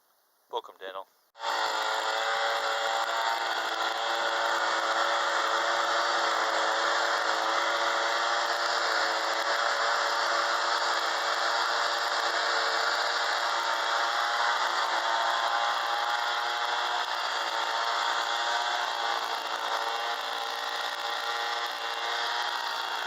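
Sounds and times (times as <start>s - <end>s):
engine-driven blower running: 1.4s - 23.0s.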